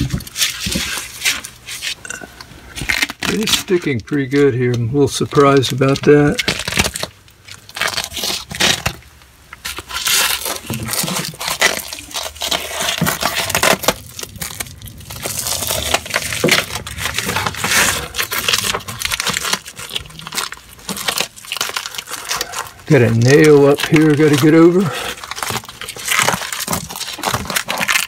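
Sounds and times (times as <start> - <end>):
gloved hands crinkling and scuffing: 2.7 - 28.0.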